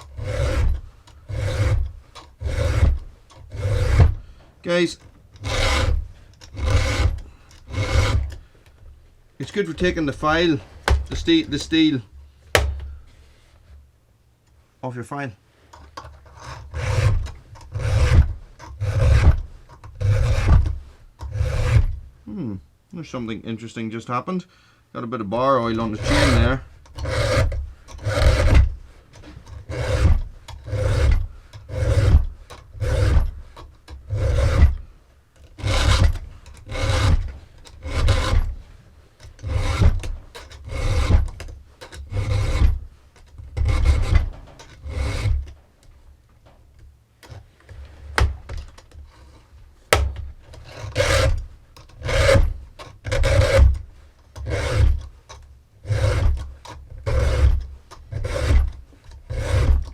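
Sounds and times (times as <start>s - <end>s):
file rasping on saw chain: 0.0s - 8.5s, 9.4s - 12.0s, 15.8s - 22.0s, 25.6s - 45.6s, 48.7s - 59.9s.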